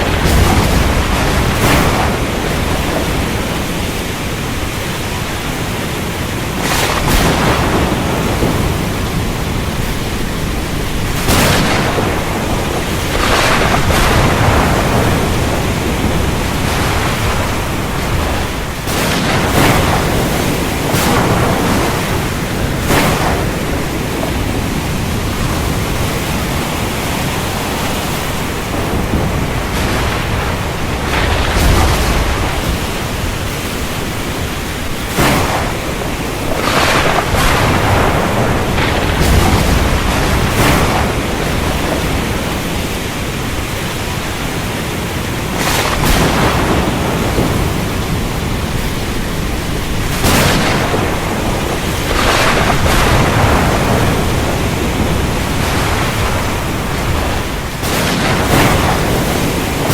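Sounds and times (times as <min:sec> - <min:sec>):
heavy rain hissing: 0:00.0 - 0:59.9
thunder cracks: 0:00.0 - 0:59.9.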